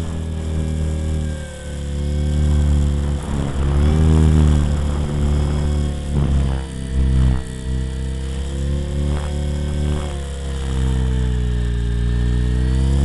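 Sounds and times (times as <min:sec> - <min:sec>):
rotor blade wind rushes: 0:00.0 - 0:11.1
rc helicopter motor whine: 0:00.0 - 0:13.0.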